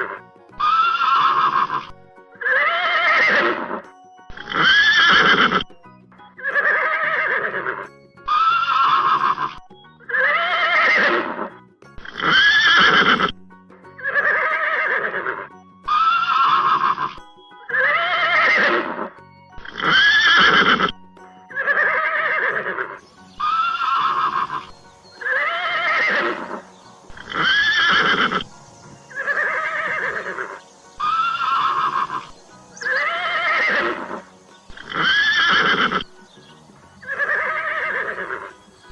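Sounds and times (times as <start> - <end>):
horse neighing: 0.0 - 3.8, 4.4 - 5.6, 6.4 - 13.3, 14.0 - 21.0, 21.6 - 28.5, 29.1 - 36.1, 37.0 - 38.6.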